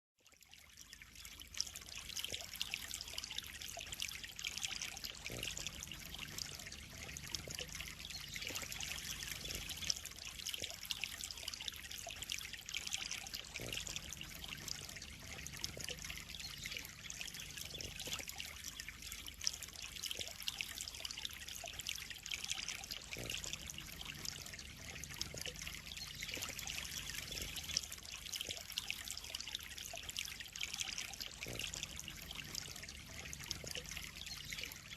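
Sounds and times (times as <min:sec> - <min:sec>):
water trickling into pond: 0:00.2 - 0:34.9.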